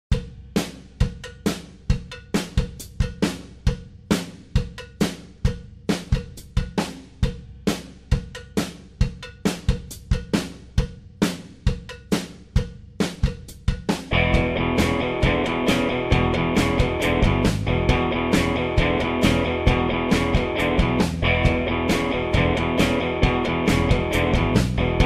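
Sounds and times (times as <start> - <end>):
drum kit beat: 0.1 - 25.0.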